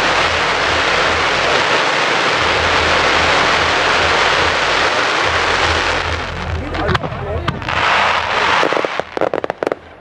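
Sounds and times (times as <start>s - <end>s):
fireworks rushing hiss: 0.0s - 10.0s.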